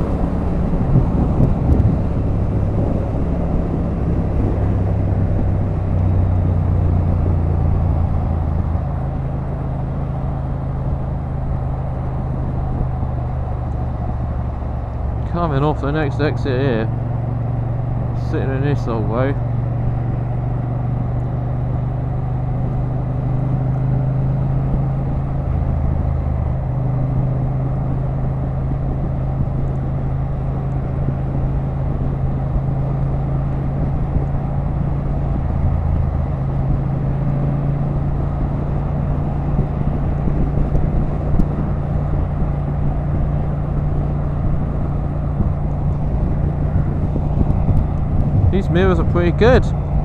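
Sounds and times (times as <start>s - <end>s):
motorcycle engine cruising: 0.0s - 50.0s
wind and road noise: 0.0s - 50.0s.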